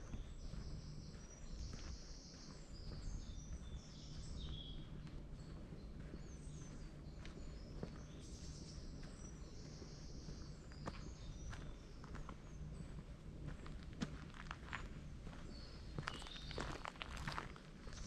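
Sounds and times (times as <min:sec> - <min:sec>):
birds singing: 0:00.0 - 0:18.0
footsteps on forest path: 0:00.0 - 0:18.0.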